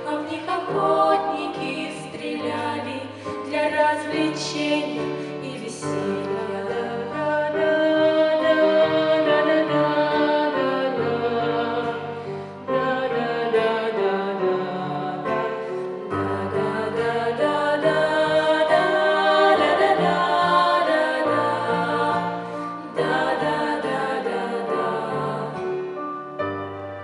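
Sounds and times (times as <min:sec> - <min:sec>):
female vocal trio singing: 0:00.0 - 0:26.0.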